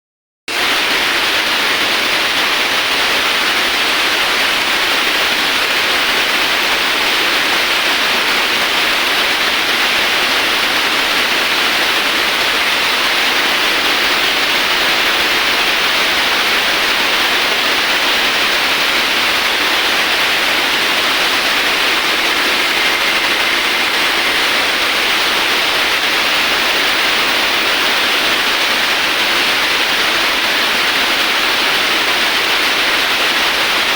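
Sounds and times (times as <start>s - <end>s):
coolant spraying hiss: 0.7s - 33.7s.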